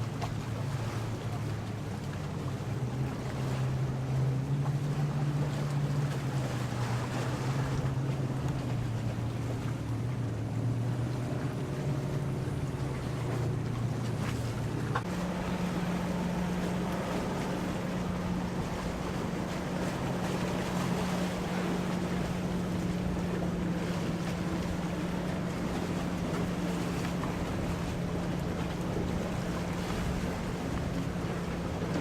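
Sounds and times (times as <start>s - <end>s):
motorboat engine drone: 0.0s - 32.0s
water noise: 0.0s - 32.0s
wind: 0.0s - 32.0s.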